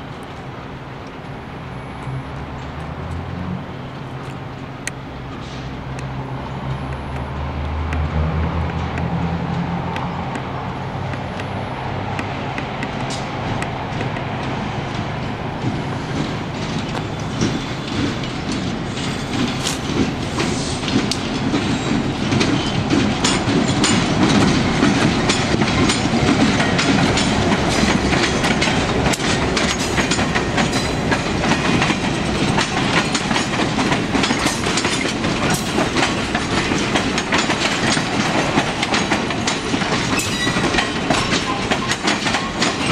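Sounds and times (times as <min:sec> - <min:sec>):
train rumble: 0:00.0 - 0:42.9
train wheels clattering over rail joints: 0:07.0 - 0:42.9.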